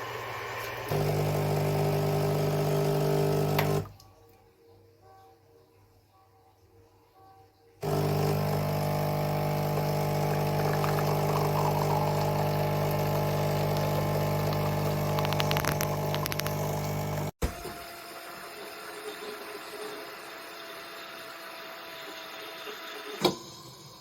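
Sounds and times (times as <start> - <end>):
coffee machine humming: 0.0 - 3.9, 7.8 - 23.8.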